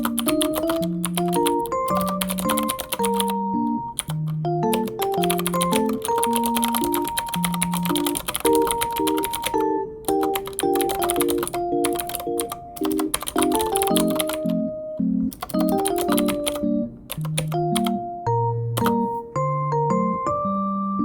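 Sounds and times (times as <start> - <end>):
rapid keyboard typing: 0.0 - 14.7, 15.3 - 18.1, 18.8 - 19.2
gentle background music: 0.0 - 21.0.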